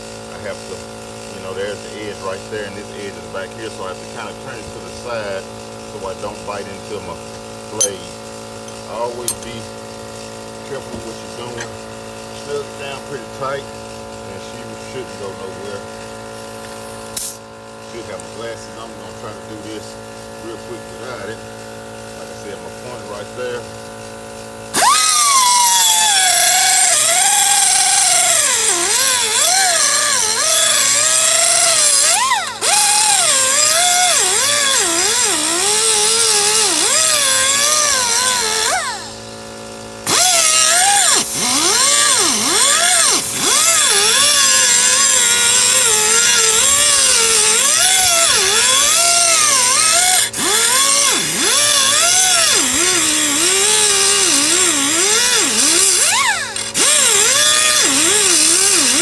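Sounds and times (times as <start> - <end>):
power tool grinding steel blade: 0.0 - 59.0.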